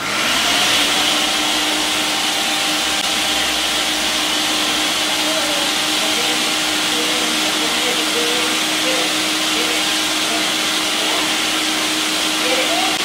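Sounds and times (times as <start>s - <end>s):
blender running at high speed: 0.0s - 13.0s.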